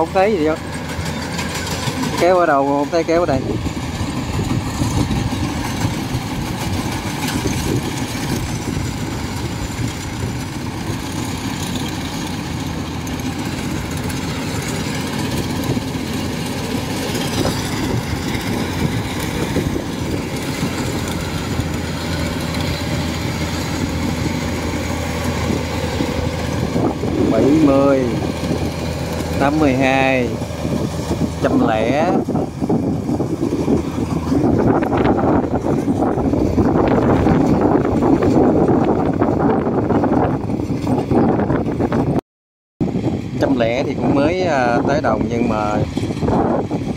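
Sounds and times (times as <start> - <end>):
threshing machinery churning: 0.0 - 39.5
diesel engine running: 0.0 - 42.2, 42.8 - 46.9.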